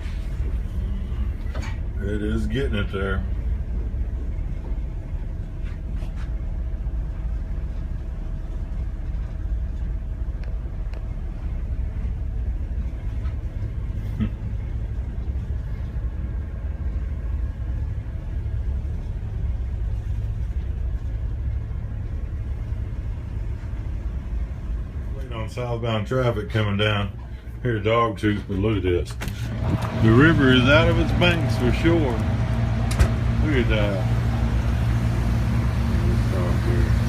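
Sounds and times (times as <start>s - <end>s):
boat engines rumbling: 0.0s - 37.0s.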